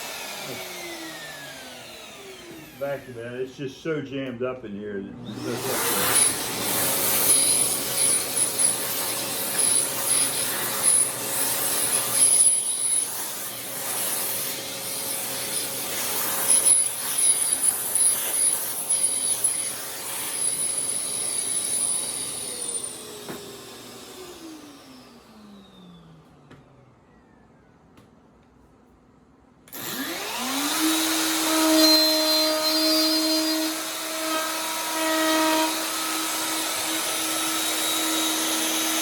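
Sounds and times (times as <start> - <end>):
shop vacuum sucking wood chips: 0.0 - 4.0, 5.2 - 26.0, 29.7 - 39.0.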